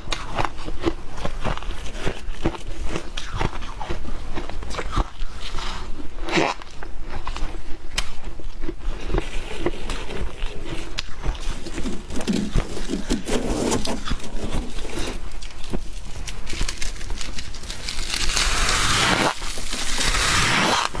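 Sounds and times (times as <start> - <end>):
chewing and crunching ice: 0.0 - 21.0.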